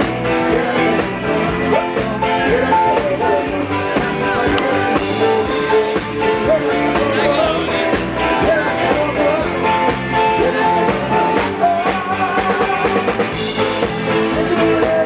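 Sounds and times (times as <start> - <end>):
person singing: 0.0 - 15.0
rock band playing: 0.0 - 15.0.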